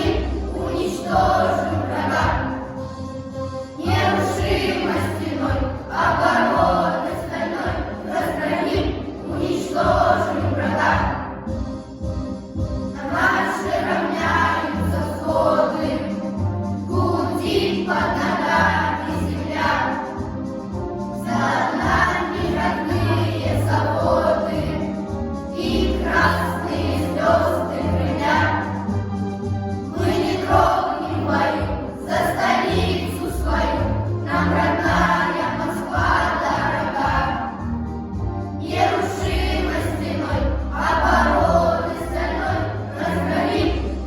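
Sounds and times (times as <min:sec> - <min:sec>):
group of voices singing: 0:00.0 - 0:11.4, 0:13.0 - 0:20.3, 0:21.2 - 0:29.0, 0:29.9 - 0:37.7, 0:38.6 - 0:44.0
instrumental backing with bass: 0:00.0 - 0:44.0.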